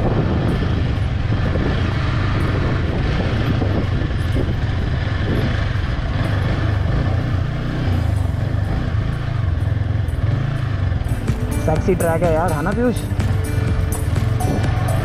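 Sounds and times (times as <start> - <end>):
motorcycle engine running at low speed: 0.0 - 15.0.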